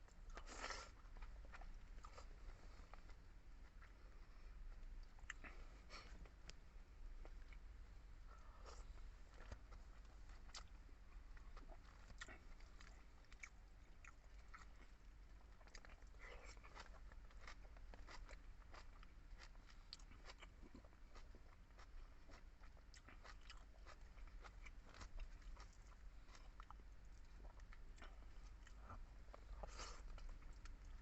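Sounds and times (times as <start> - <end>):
person chewing food: 0.1 - 31.0.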